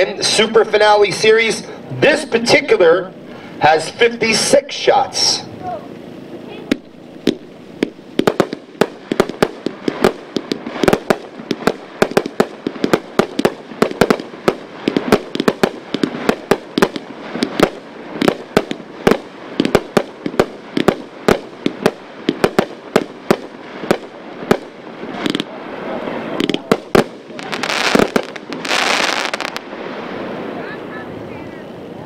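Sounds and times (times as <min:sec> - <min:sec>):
fireworks barrage bangs: 0:03.6 - 0:31.3.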